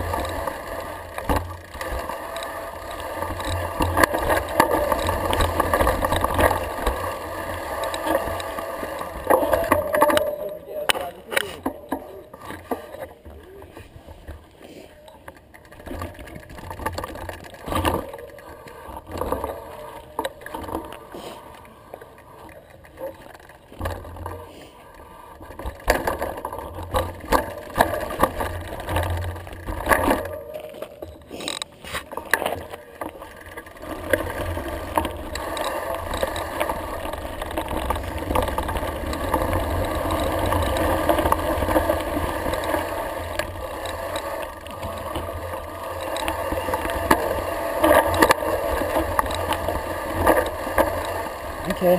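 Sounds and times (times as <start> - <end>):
bike rattling over bumps: 0.0 - 51.9
tyres crunching over gravel: 0.0 - 51.9.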